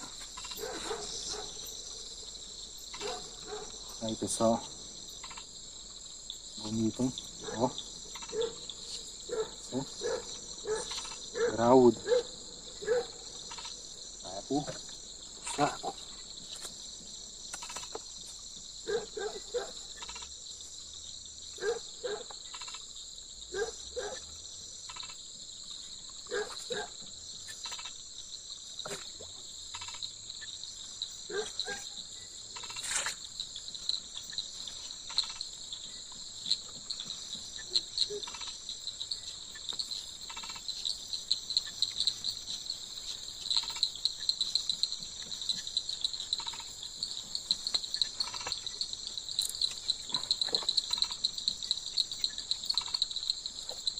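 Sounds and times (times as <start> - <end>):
frog calls: 0.0 - 16.7, 17.5 - 18.1, 18.8 - 20.4, 21.5 - 25.3, 26.2 - 28.0, 28.8 - 30.6, 31.3 - 53.9
crickets and insects trilling: 0.0 - 53.9.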